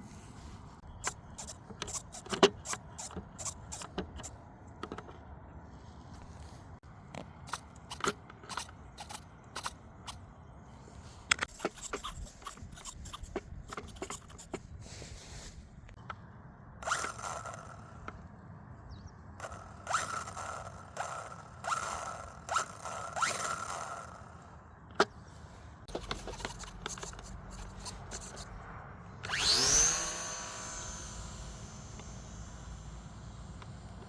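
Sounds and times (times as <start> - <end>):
small electric motor whining: 0.4 - 4.4, 7.4 - 16.0, 16.8 - 34.0.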